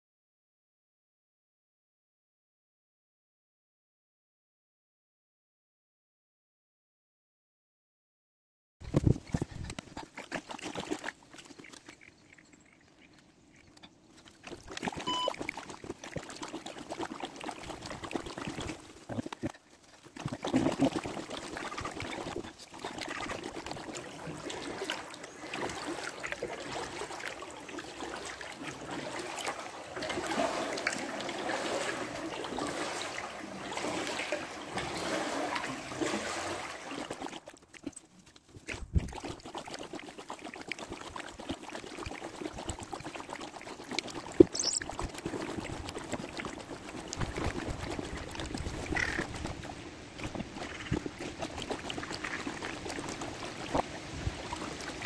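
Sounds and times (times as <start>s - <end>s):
kayak paddle strokes in water: 8.8s - 12.7s, 13.8s - 55.0s.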